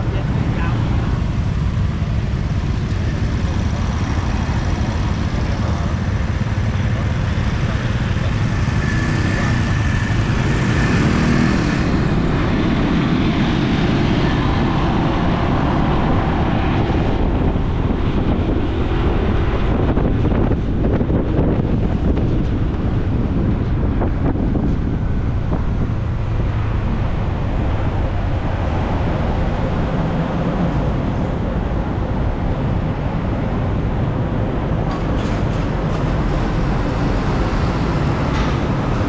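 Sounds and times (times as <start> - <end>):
motor scooter engines: 0.0 - 39.0
street traffic: 0.0 - 39.0
wind noise on microphone: 0.0 - 39.0.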